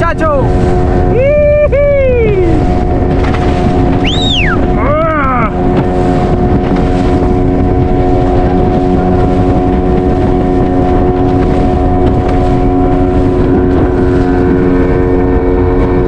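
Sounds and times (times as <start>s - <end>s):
outboard motor running: 0.0s - 16.0s
wind buffeting microphone: 0.0s - 16.0s.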